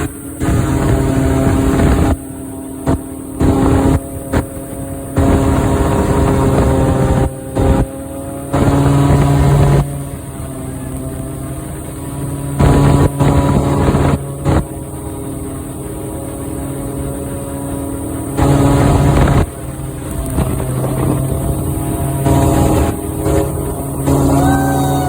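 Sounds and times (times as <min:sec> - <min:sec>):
airboat engine and propeller: 0:00.0 - 0:25.0.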